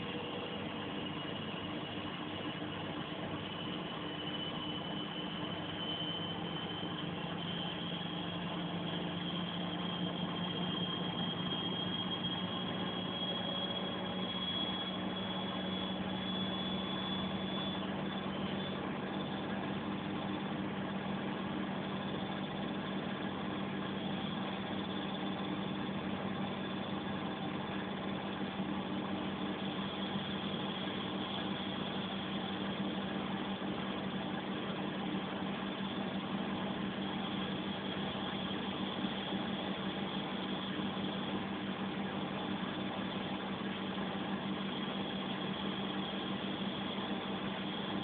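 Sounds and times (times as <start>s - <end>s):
washing machine spinning: 0.0s - 48.0s.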